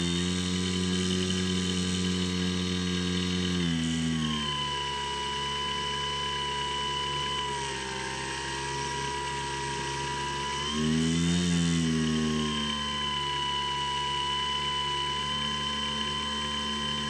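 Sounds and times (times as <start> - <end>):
electric motor propeller whine: 0.0 - 17.0.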